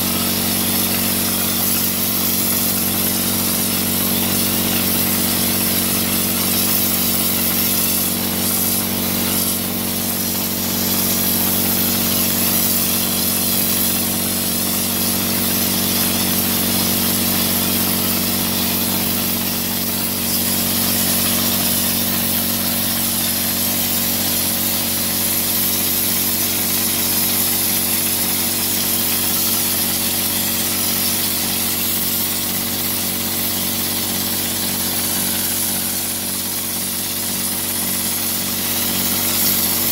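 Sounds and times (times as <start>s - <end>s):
spray gun hissing: 0.0s - 39.9s
spray rig motor running: 0.0s - 39.9s.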